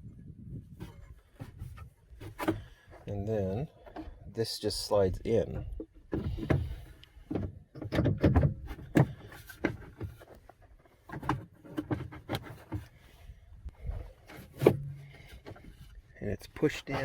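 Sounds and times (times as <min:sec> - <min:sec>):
plastic and metal parts scraping: 0:00.7 - 0:03.1, 0:05.3 - 0:17.0.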